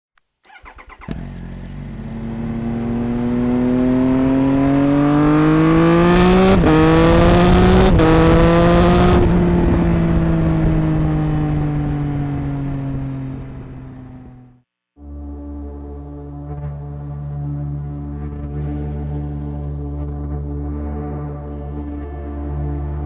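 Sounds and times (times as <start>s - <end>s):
motorcycle engine revving: 0.5s - 23.0s.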